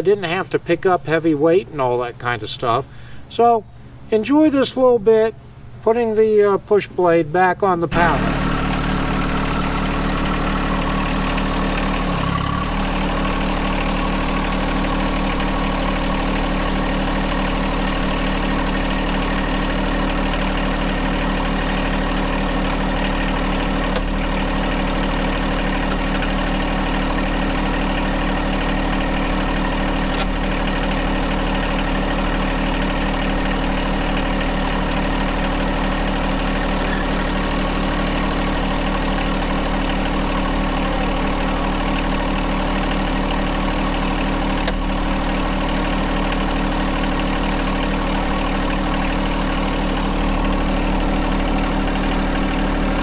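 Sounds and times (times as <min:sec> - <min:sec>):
tractor diesel engine running: 0:07.6 - 0:53.0.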